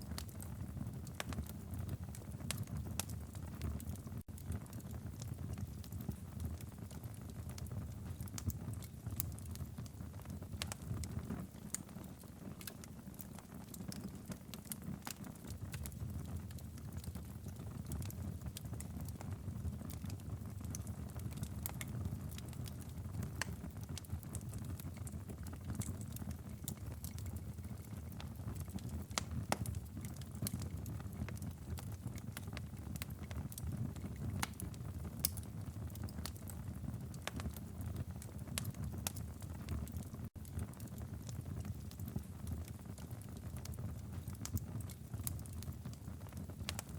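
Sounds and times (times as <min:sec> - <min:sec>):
low rumble of flames: 0:00.0 - 0:46.9
wood fire crackling and popping: 0:00.0 - 0:46.9.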